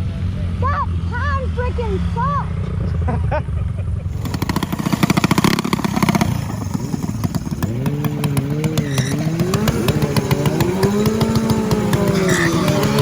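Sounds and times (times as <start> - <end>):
minibike engine revving: 0.0 - 13.0.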